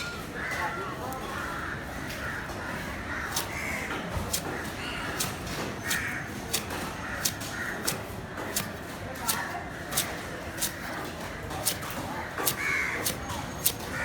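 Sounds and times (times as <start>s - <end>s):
crows cawing: 0.2s - 14.0s.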